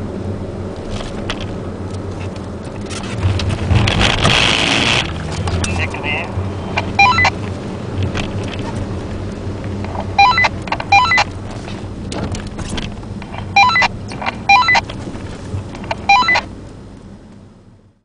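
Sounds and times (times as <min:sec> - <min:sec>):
car engine rumble in cabin: 0:00.0 - 0:18.0.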